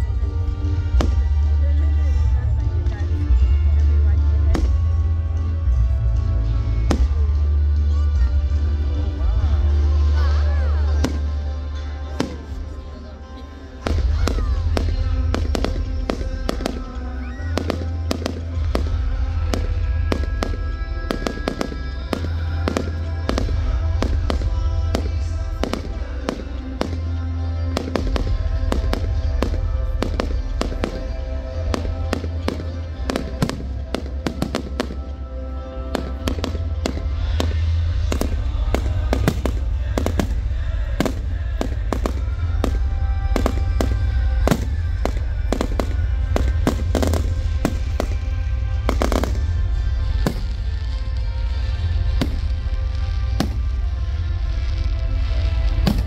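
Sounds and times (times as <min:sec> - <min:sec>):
fireworks bangs and crackles: 0:00.0 - 0:13.1, 0:13.7 - 0:56.0
music playing: 0:00.0 - 0:56.0.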